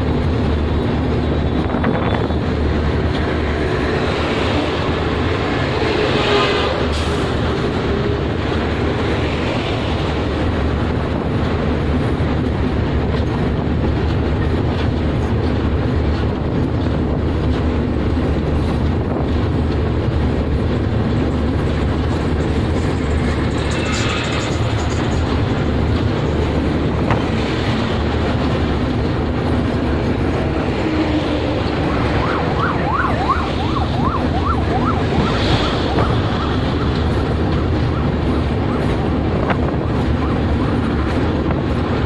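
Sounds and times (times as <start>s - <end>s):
train wheels rumbling and rattling: 0.0s - 42.0s.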